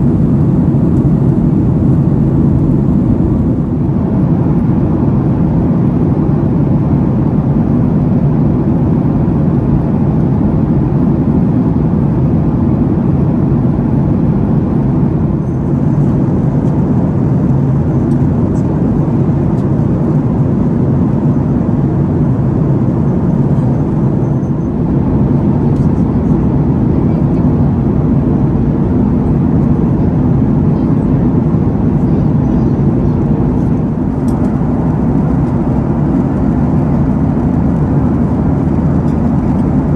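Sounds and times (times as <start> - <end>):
aircraft cabin engine roar: 0.0 - 39.9.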